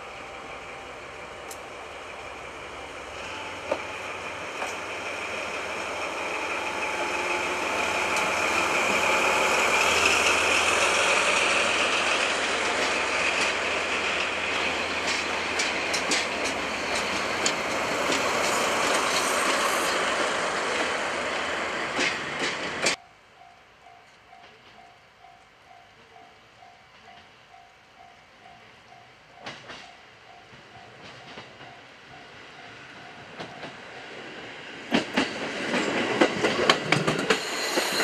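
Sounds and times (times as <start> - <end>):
diesel locomotive engine passing: 0.0 - 23.0, 29.6 - 38.0
train wheels clicking on rail joints: 1.3 - 23.0, 28.5 - 38.0.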